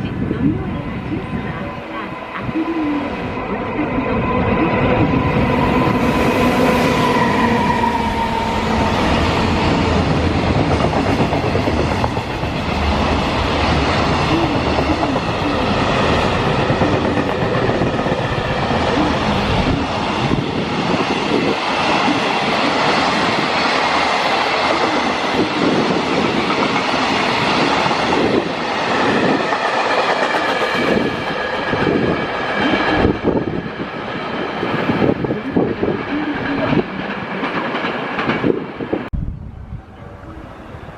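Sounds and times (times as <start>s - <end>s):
freight train passing: 0.0s - 40.9s.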